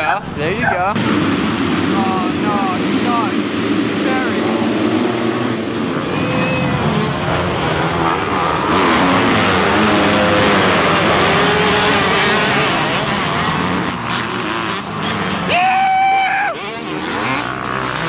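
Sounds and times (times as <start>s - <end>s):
motorcycle passing close: 0.0s - 15.5s, 16.5s - 18.0s
motocross bikes revving: 0.0s - 18.0s.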